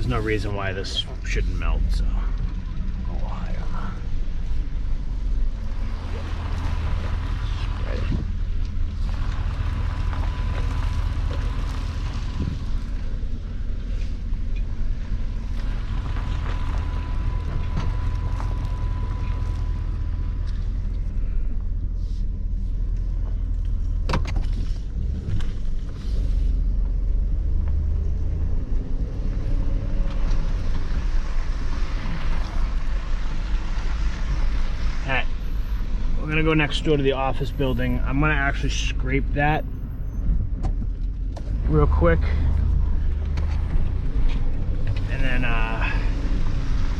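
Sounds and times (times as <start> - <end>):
truck engine running: 0.0 - 46.9.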